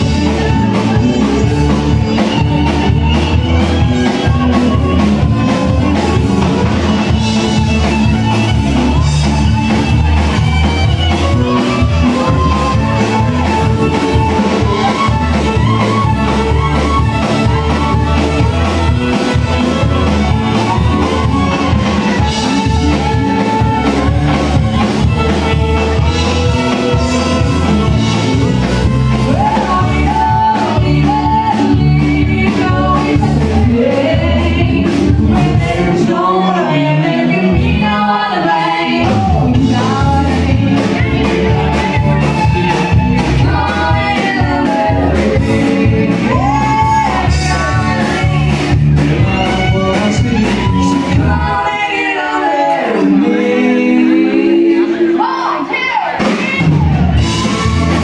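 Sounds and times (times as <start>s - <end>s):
live band playing: 0.0s - 58.0s
person singing: 0.0s - 58.0s.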